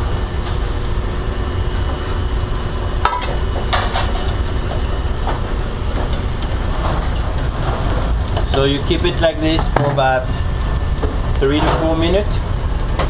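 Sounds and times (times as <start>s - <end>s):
kitchen ventilation rumble: 0.0s - 13.0s.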